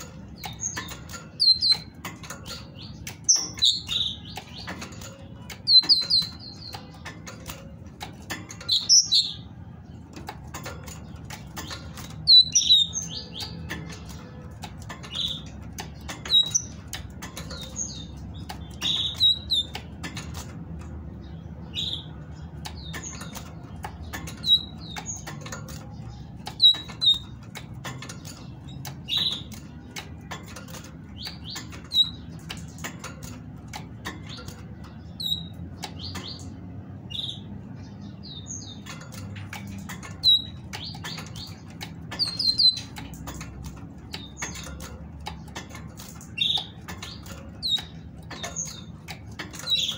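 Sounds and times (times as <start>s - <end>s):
bird chirping calls: 0.0s - 49.9s
clicks on wire cage: 0.0s - 49.9s.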